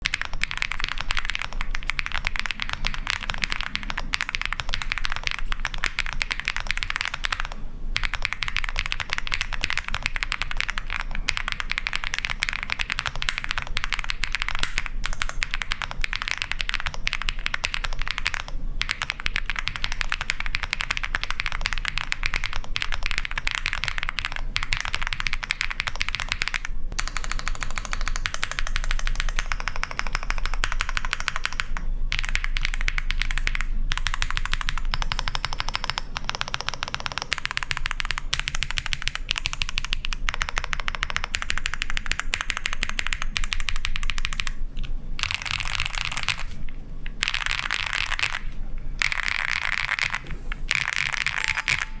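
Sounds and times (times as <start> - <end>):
fast mechanical keyboard typing: 0.0 - 52.0.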